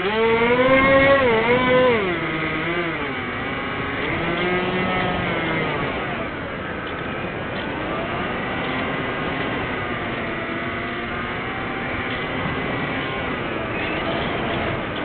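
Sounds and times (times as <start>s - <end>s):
model plane motors whining: 0.0s - 15.0s.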